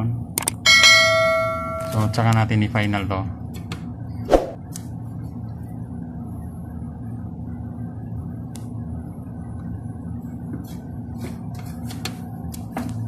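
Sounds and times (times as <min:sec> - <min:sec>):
refrigeration equipment humming: 0:00.0 - 0:11.4.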